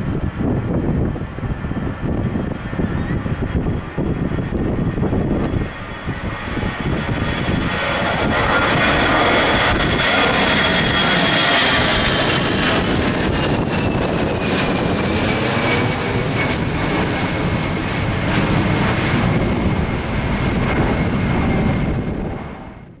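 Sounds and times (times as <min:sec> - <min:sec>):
jet engine roar and whine: 0:00.0 - 0:23.0.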